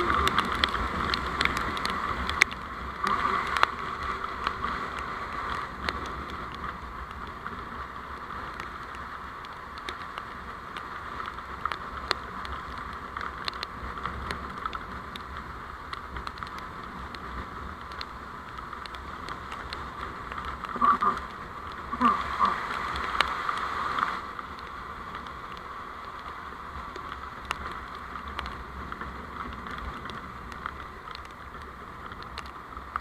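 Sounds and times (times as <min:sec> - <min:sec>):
small ticks: 0:00.0 - 0:23.3, 0:24.0 - 0:33.0
vehicle road noise: 0:00.0 - 0:33.0.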